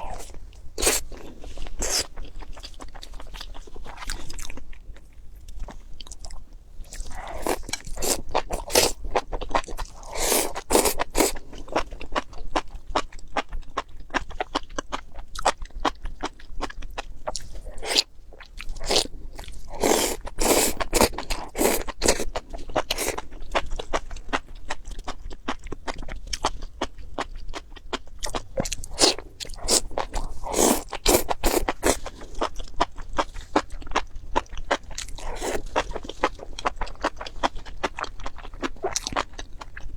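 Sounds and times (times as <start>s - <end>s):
person crunching food: 0.0s - 4.7s, 5.6s - 12.4s, 16.6s - 24.7s, 25.9s - 39.8s
quiet chewing: 0.0s - 39.9s.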